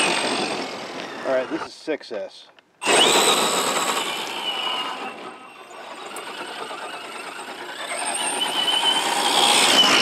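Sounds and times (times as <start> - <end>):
electric motor whining: 0.0 - 1.7, 2.8 - 10.0.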